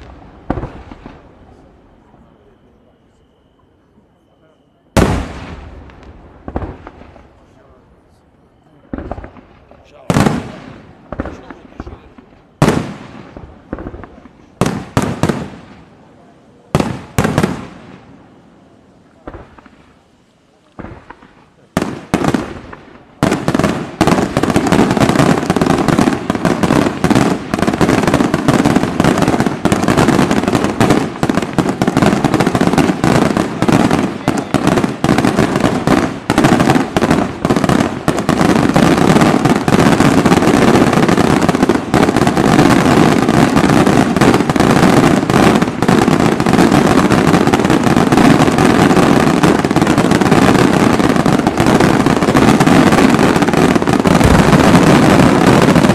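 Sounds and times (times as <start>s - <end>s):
fireworks bursting: 0.0s - 55.9s.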